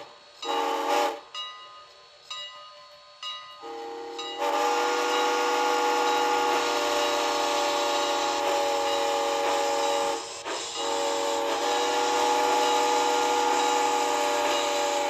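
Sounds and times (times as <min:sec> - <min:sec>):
model train chime horn: 0:00.0 - 0:15.0.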